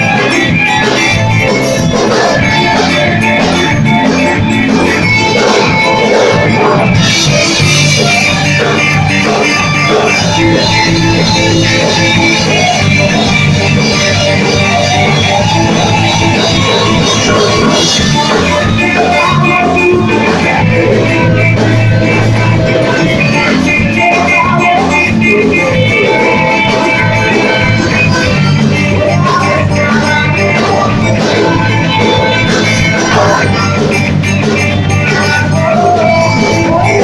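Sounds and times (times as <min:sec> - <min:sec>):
loud rock music: 0:00.0 - 0:37.0.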